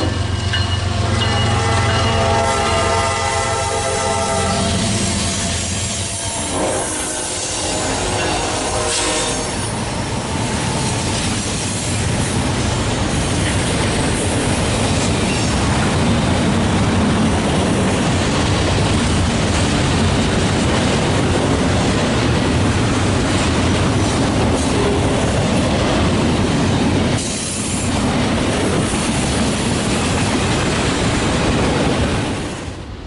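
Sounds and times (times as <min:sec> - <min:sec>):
freight train wheels on rail: 0:00.0 - 0:33.0.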